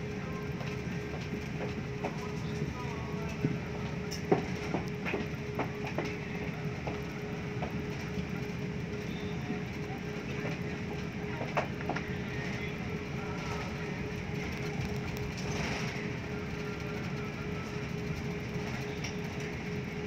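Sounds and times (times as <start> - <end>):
aircraft cabin rumble and hum: 0.0 - 20.0.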